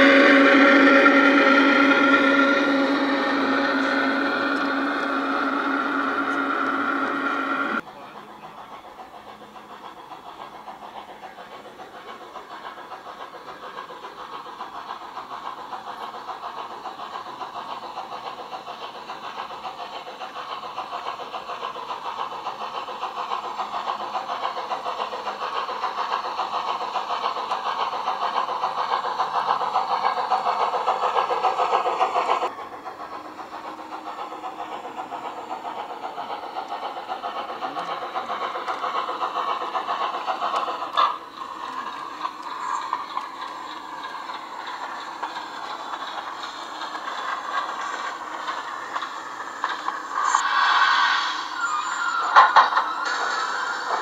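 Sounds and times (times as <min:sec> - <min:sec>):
model train running on rails: 0:00.0 - 0:54.0.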